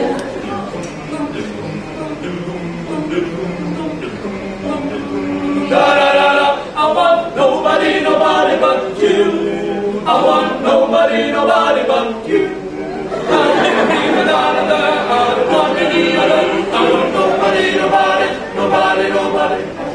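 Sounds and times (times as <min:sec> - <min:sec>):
group singing a cappella: 0:00.0 - 0:19.9.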